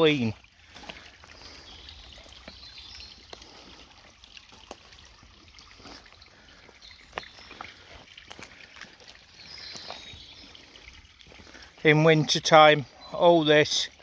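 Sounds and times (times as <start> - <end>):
faint water trickle: 0.0 - 14.0.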